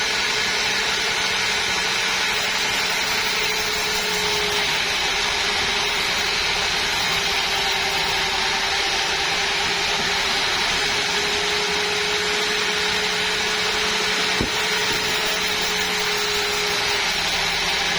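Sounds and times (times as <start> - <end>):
sawmill saw whining: 0.0 - 17.9.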